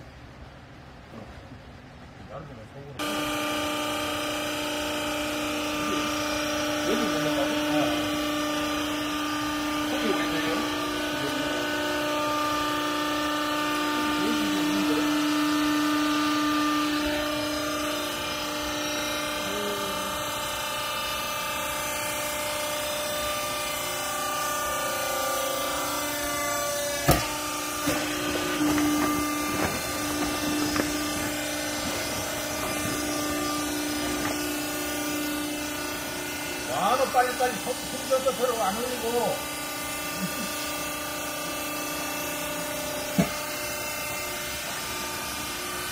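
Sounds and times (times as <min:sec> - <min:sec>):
hydraulic pump humming: 0:03.0 - 0:45.9.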